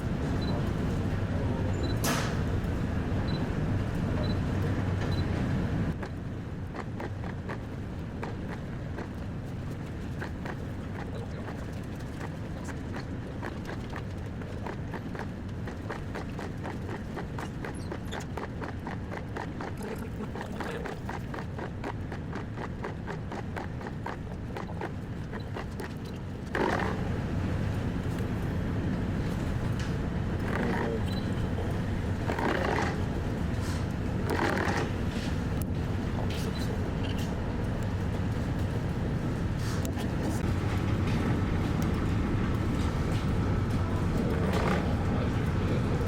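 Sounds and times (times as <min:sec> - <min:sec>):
low ship rumble: 0:00.0 - 0:46.0.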